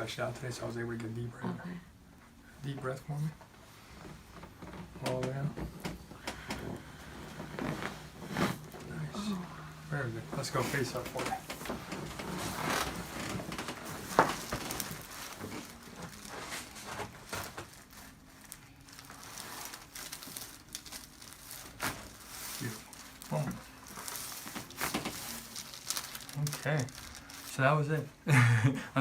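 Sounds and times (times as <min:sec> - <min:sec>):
rustling on a treatment table: 0:02.1 - 0:28.1.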